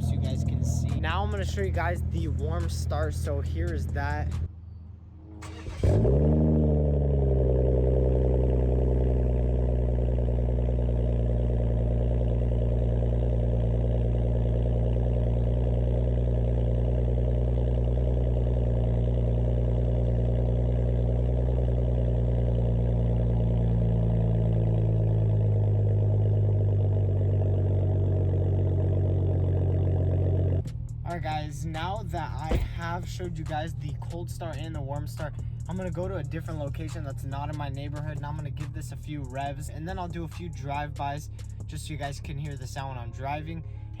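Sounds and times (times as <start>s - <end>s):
car engine starting and idling: 0.0s - 44.0s.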